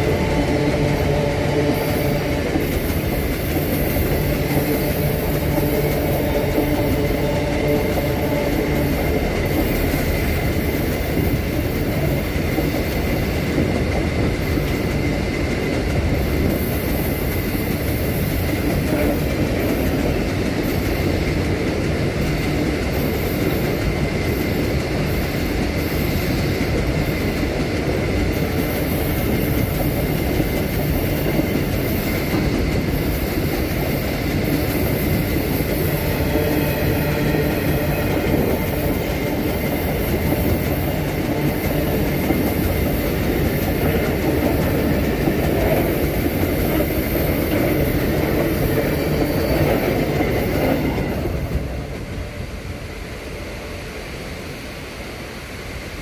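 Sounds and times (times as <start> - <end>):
train wheels clattering on rails: 0.0 - 53.5
high whine from train wheels: 0.0 - 56.0.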